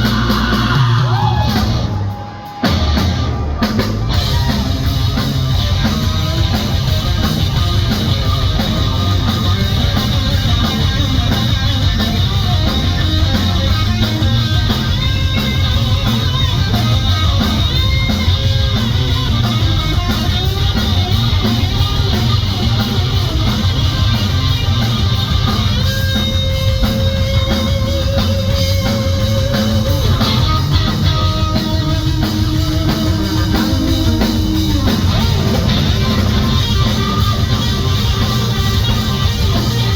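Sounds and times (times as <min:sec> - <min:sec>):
bass and drum kit: 0:00.0 - 0:39.9
electric guitar lead: 0:00.0 - 0:39.9.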